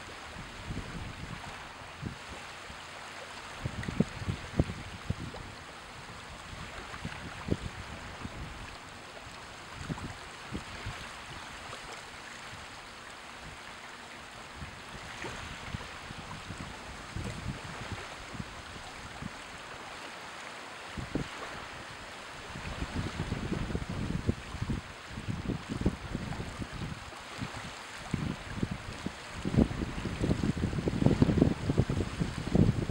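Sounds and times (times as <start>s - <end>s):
small waves lapping on shore: 0.0s - 32.9s.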